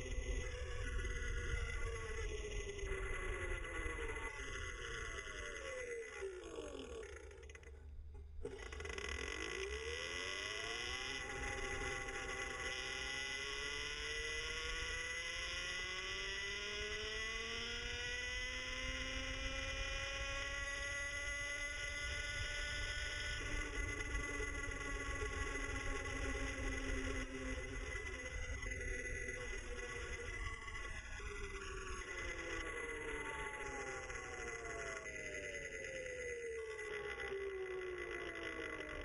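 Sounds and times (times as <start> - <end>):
electric motorcycle motor whining: 0.0 - 39.0.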